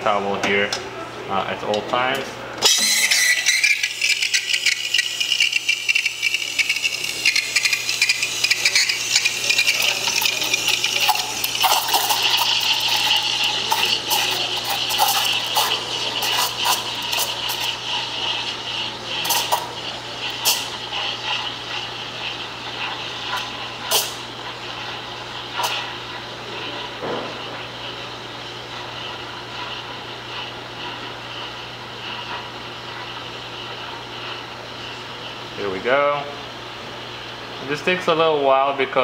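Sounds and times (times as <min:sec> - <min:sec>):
steam wand hissing: 0:02.7 - 0:34.6.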